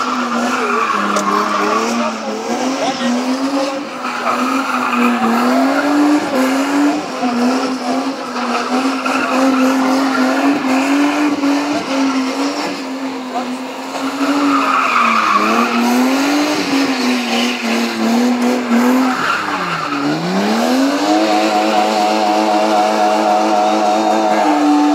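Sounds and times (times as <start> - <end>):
car engine revving high: 0.0 - 24.9
tyres squealing on asphalt: 0.0 - 24.9.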